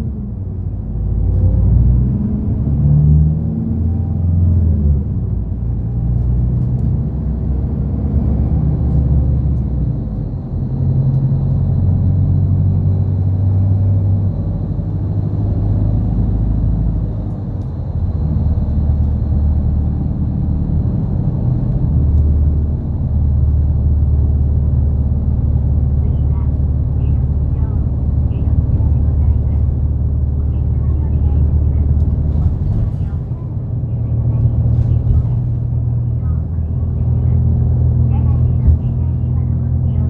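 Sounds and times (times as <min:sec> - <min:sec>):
bus engine drone: 0:00.0 - 0:40.0
road rumble: 0:00.0 - 0:40.0.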